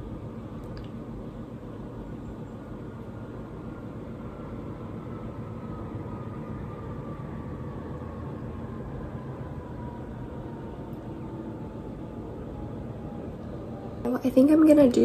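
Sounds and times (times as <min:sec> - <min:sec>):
faint whine falling in pitch: 0:00.0 - 0:15.0.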